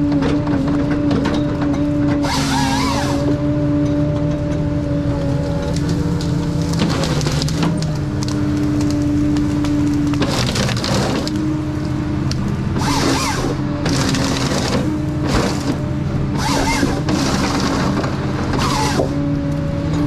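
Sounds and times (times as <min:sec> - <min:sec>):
wood cracking and splintering: 0:00.0 - 0:03.5, 0:04.1 - 0:20.0
harvester engine and hydraulics whine: 0:00.0 - 0:20.0.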